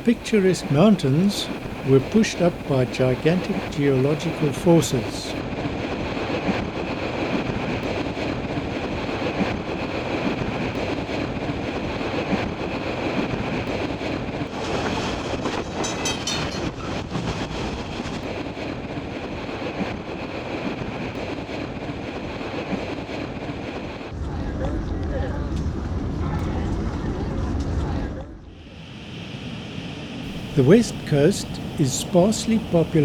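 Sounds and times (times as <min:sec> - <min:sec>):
train rumbling along track: 0:00.0 - 0:33.0.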